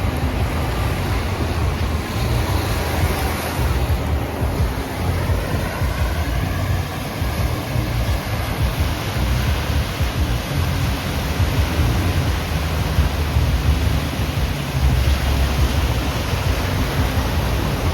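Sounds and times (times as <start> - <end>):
water rushing: 0.0 - 17.9.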